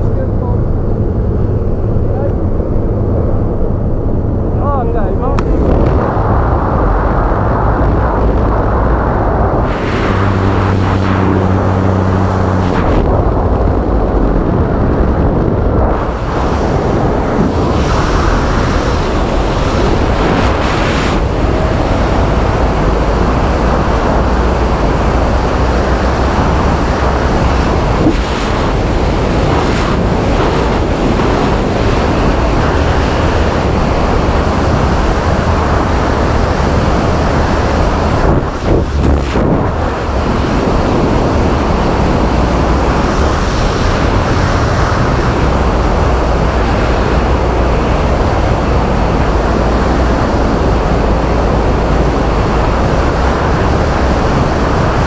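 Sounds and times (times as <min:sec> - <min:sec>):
aircraft engine drone: 0:00.0 - 0:55.0
freefall wind rushing: 0:00.0 - 0:55.0.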